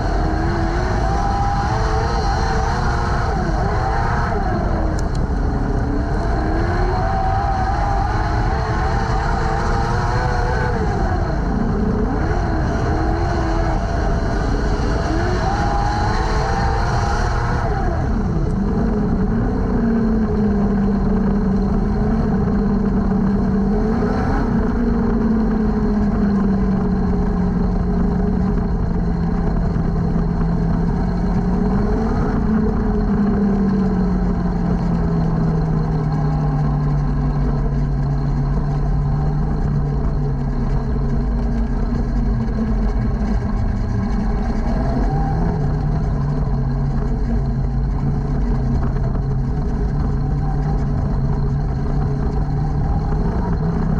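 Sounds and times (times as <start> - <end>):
engine throttle blips: 0.0 - 53.9
race car engine running: 0.0 - 53.9.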